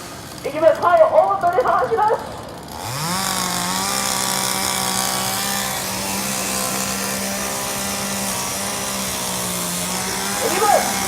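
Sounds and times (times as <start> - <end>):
chainsaw running at high revs: 0.0 - 11.0.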